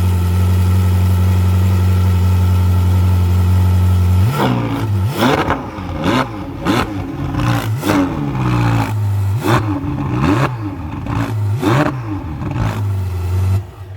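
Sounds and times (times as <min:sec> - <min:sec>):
car engine idling: 0:00.0 - 0:13.9
car engine revving: 0:00.0 - 0:13.9.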